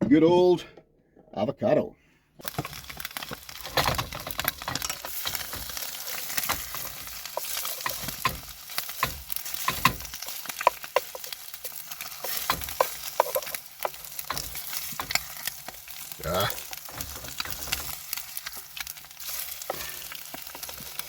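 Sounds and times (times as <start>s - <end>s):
food sizzling in a hot pan: 2.4s - 21.0s.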